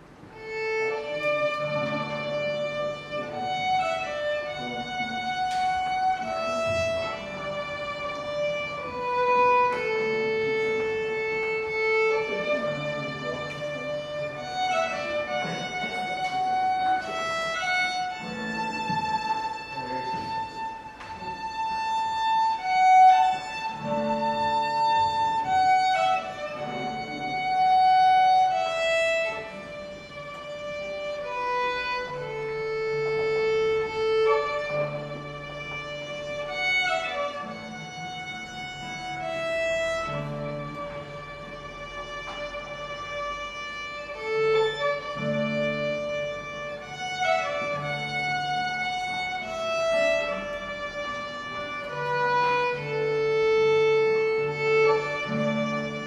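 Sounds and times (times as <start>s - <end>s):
lower accompaniment: 0.0s - 56.0s
violin slow melody: 0.0s - 56.0s.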